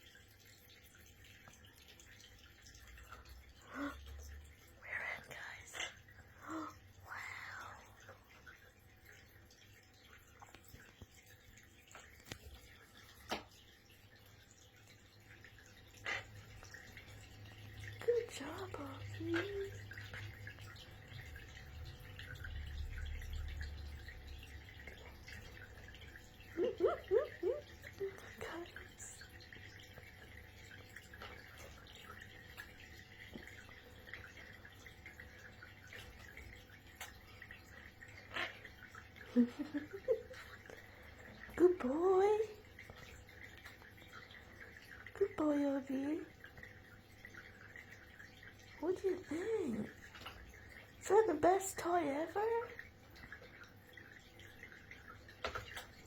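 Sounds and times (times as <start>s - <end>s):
parrot splashing in water: 0.0s - 56.0s.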